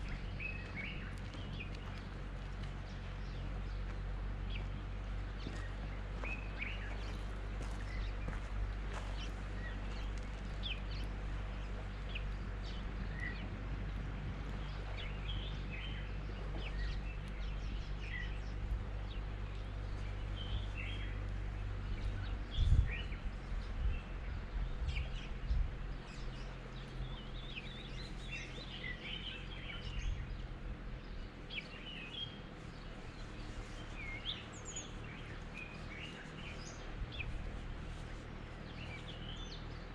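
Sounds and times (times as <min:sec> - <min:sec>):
small birds chirping: 0:00.0 - 0:39.9
steady low hum: 0:00.0 - 0:39.9.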